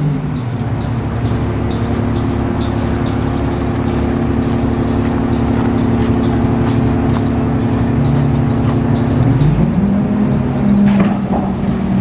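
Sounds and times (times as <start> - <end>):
garbage truck diesel engine running: 0.0 - 12.0.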